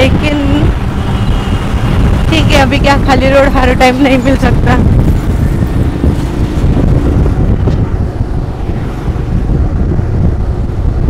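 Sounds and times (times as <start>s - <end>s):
motorcycle engine: 0.0s - 3.1s, 4.0s - 11.0s
road noise: 0.0s - 11.0s
wind buffeting microphone: 0.0s - 11.0s.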